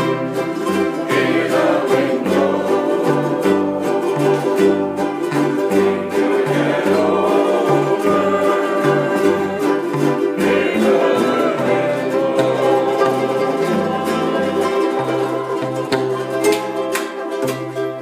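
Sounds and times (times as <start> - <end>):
bass line: 0.0 - 18.0
ukuleles strummed together: 0.0 - 18.0.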